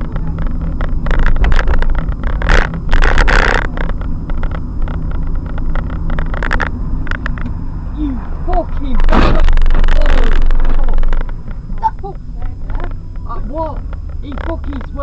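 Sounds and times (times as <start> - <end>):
irregular clicks and knocks: 0.0 - 7.6, 8.5 - 15.0
car and road rumble: 0.0 - 15.0
rushes of noise: 0.0 - 15.0.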